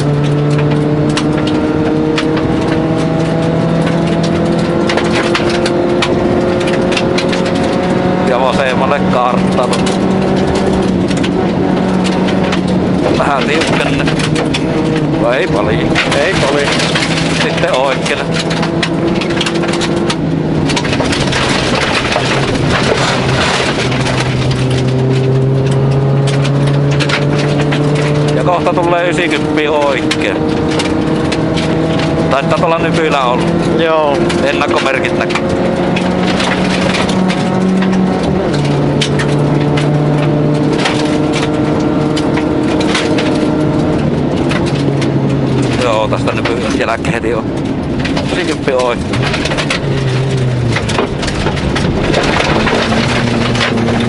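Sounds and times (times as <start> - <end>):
gravel and tyre noise: 0.0 - 54.0
rally car engine accelerating: 0.0 - 54.0.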